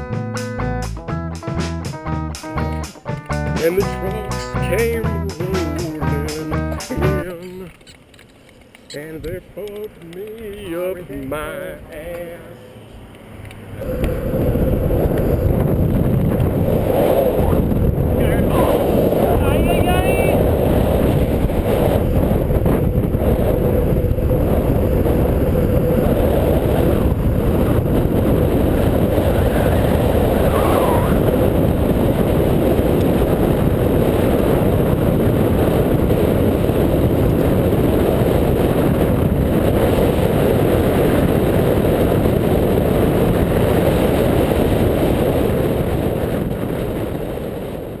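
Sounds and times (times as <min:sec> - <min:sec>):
longboard wheels rolling on asphalt: 0:07.2 - 0:48.0
wind buffeting microphone: 0:09.0 - 0:48.0.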